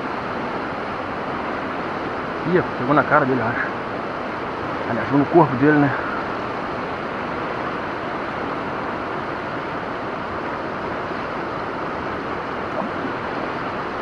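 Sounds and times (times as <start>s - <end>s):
river water rushing over rapids: 0.0s - 14.0s.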